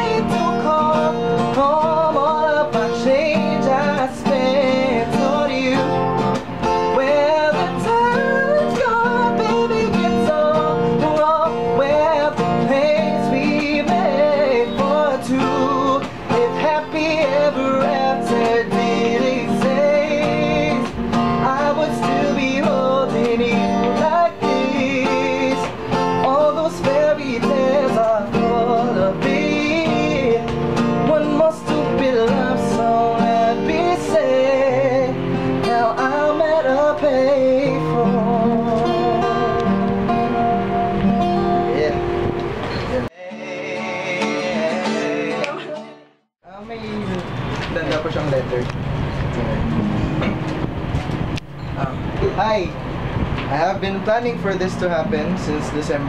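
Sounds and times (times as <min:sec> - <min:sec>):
man singing: 0:00.0 - 0:39.8, 0:41.6 - 0:47.3
guitar strumming and plucking: 0:00.0 - 0:56.0.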